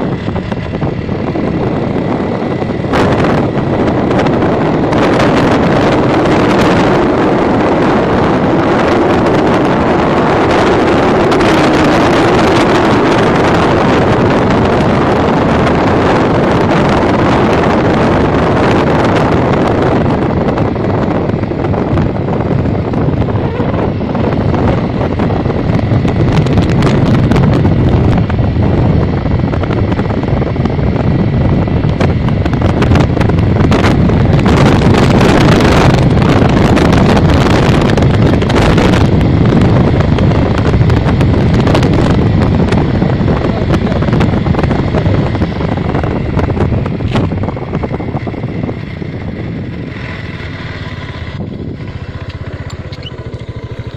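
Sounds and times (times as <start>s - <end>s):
road and engine noise: 0.0s - 53.9s
wind buffeting microphone: 0.0s - 53.9s.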